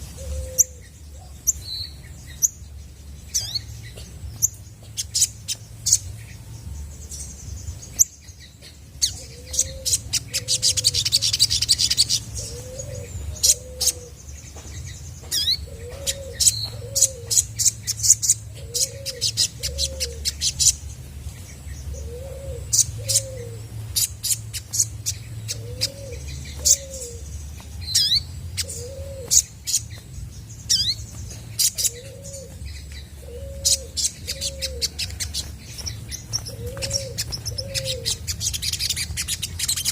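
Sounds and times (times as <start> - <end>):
sunbird chirping: 0.0 - 39.9.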